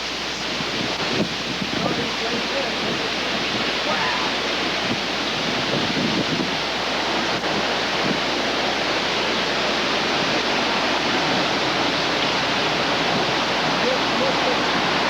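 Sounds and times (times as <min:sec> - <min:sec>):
strong wind roaring: 0:00.0 - 0:15.0
wind buffeting microphone: 0:00.0 - 0:15.0.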